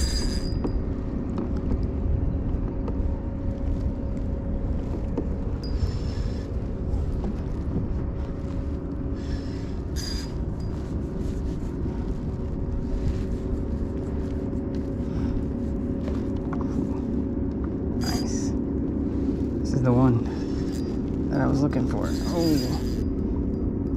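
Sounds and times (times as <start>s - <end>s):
motorboat engine rumble: 0.0s - 23.9s.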